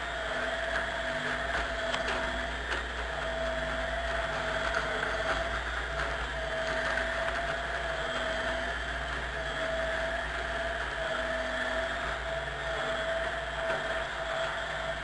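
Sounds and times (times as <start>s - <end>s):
drum mixer motor whine: 0.0s - 15.0s.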